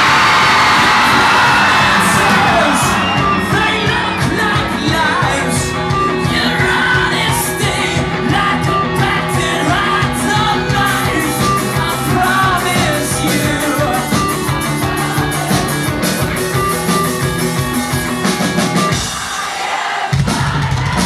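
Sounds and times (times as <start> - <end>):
person singing: 0.0 - 17.0
electric guitar: 0.0 - 19.0
drums: 0.0 - 21.0.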